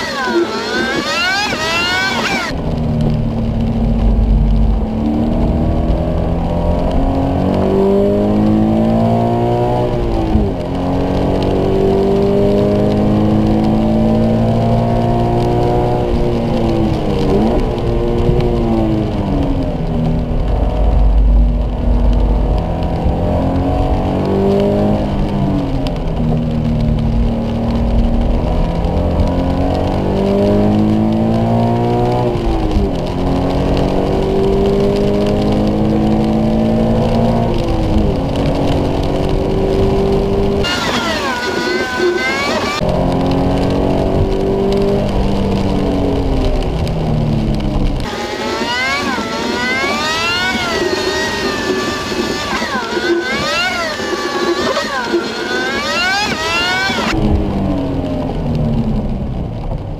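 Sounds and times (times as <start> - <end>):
car engine revving through gears: 0.0 - 59.7.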